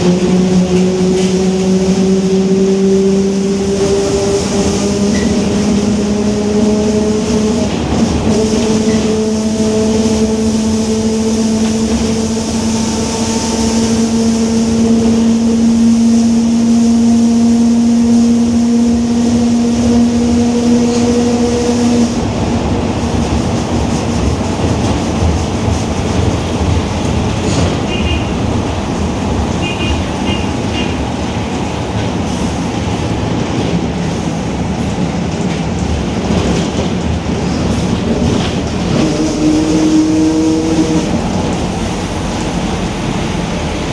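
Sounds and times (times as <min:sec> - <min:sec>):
bus differential whining: 0:00.0 - 0:43.9
road and drivetrain noise: 0:00.0 - 0:43.9.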